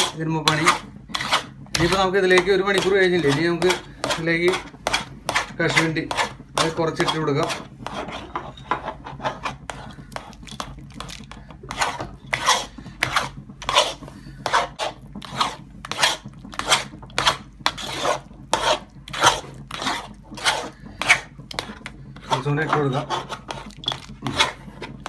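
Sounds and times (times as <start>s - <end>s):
spatula scraping a metal wok: 0.0s - 25.0s.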